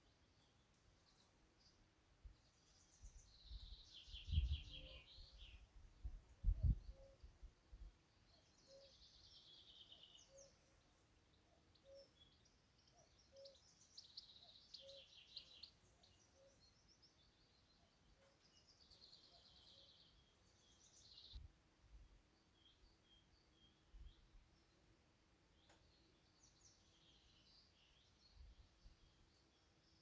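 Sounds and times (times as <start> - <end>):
faint birdsong trills: 0.0 - 30.0.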